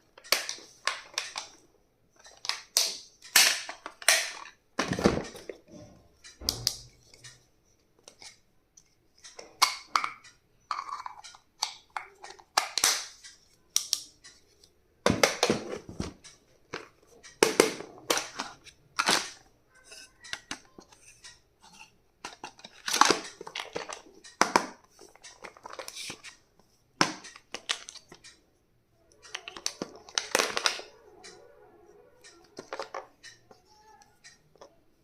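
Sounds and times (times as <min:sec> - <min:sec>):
plastic items clicking and knocking: 0:00.0 - 0:28.5, 0:29.1 - 0:31.4, 0:32.2 - 0:34.8.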